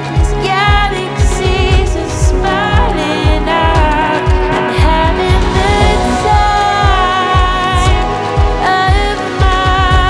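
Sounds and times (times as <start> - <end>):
upbeat background music: 0.0 - 10.0
kick drum: 0.2 - 10.0.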